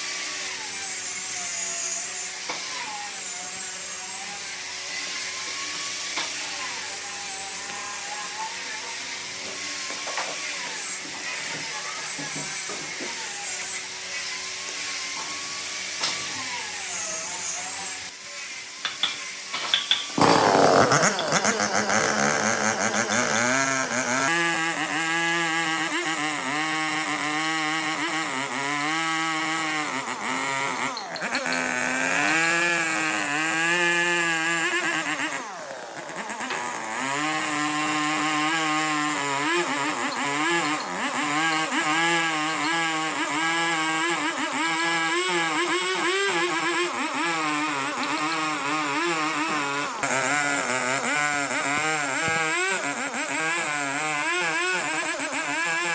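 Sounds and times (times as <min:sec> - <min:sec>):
power tool motor cutting wood: 0:00.0 - 0:55.9.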